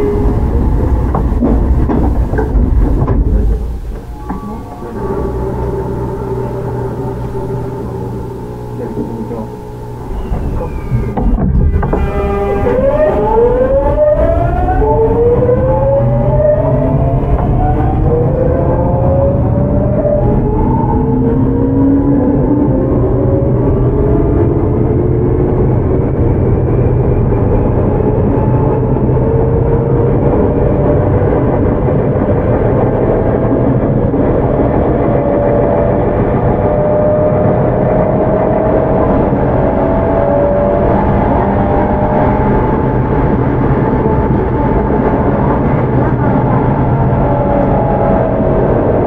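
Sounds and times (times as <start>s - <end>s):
train inverter and motors whining: 0.0s - 49.0s
wheels rumbling on rail: 0.0s - 49.0s.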